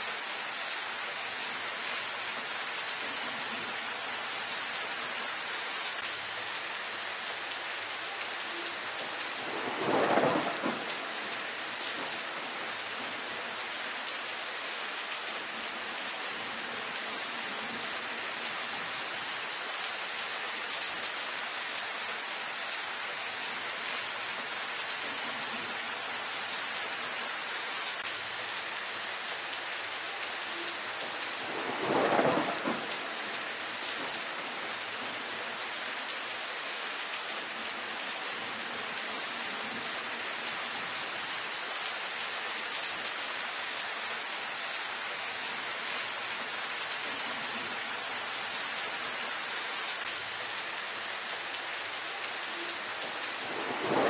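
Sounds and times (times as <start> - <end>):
rain on foliage: 0.0 - 54.0.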